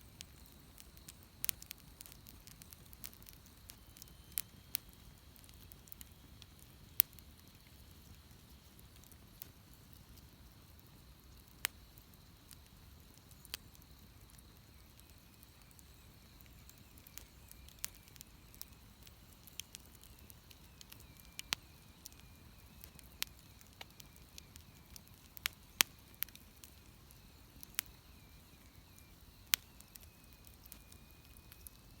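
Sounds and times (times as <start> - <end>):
bonfire crackling and popping: 0.0 - 32.0.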